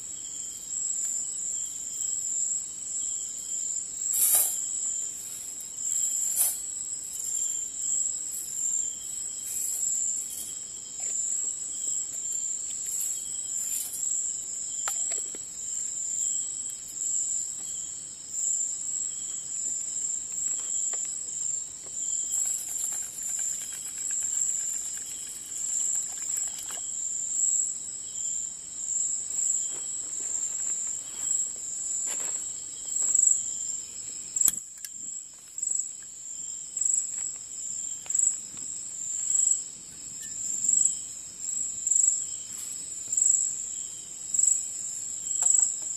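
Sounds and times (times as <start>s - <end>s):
night insects trilling: 0.0s - 45.9s.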